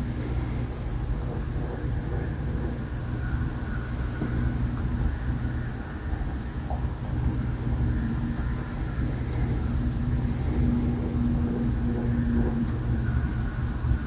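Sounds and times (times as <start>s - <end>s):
electric motors humming: 0.0s - 14.0s
thin high whine: 0.0s - 14.0s.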